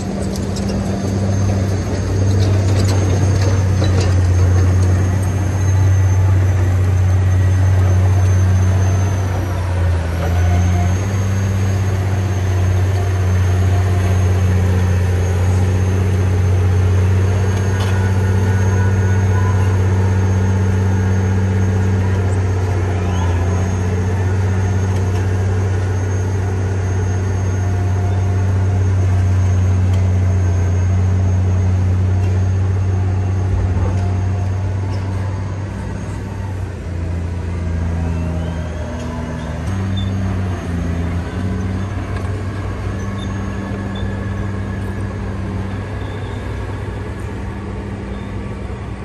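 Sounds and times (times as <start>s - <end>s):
bulldozer diesel engine droning: 0.0s - 49.0s.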